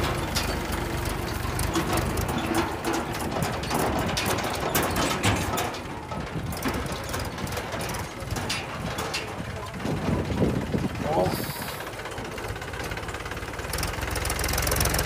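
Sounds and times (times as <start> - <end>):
tractor diesel engine running: 0.0 - 15.0
trailer clicks and rattles: 0.0 - 15.0.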